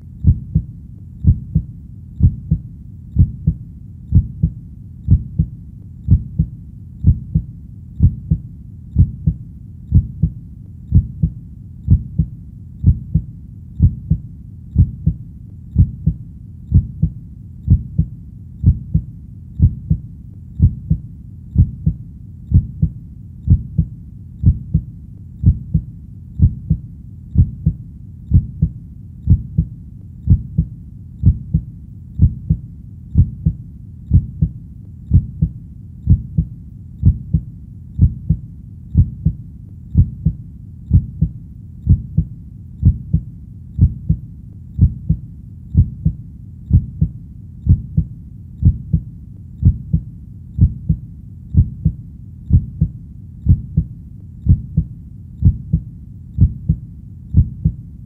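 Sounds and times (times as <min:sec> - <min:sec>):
heartbeat thumps: 0:00.1 - 0:57.8.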